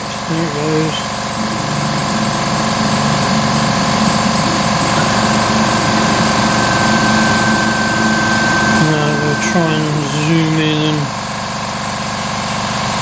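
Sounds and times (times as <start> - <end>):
air compressor humming: 0.0 - 12.9
cnc mill running: 0.0 - 13.0
high steady whine: 0.0 - 13.0.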